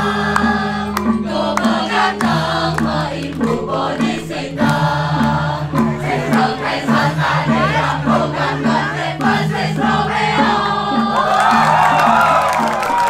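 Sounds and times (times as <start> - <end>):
low repeated accompaniment: 0.0 - 13.0
women singing together: 0.0 - 13.0.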